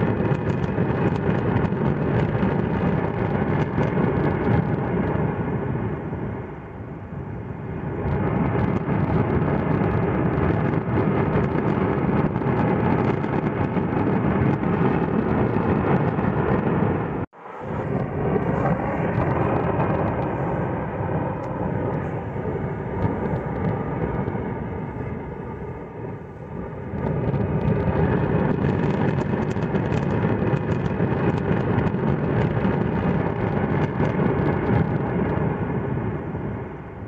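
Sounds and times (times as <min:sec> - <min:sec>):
volcano erupting roar: 0:00.0 - 0:37.0.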